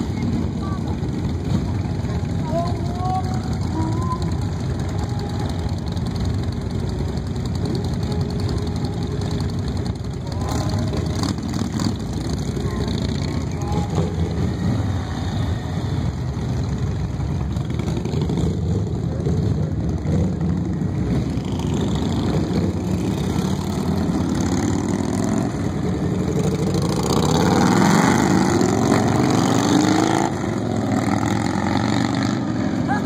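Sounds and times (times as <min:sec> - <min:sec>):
motorcycle engine accelerating: 0:00.0 - 0:33.0
motorcycle engines rumbling: 0:00.0 - 0:33.0.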